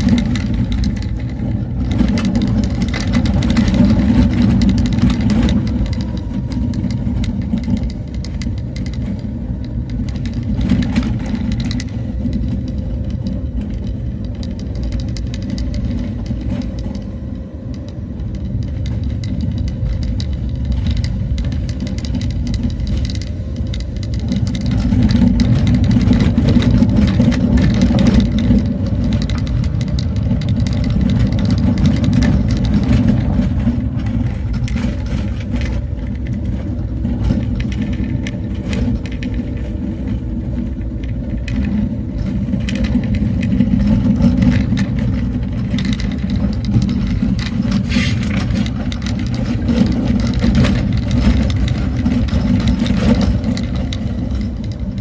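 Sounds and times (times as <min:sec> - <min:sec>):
knocks and rattles: 0:00.0 - 0:55.0
vehicle engine and road rumble: 0:00.0 - 0:55.0.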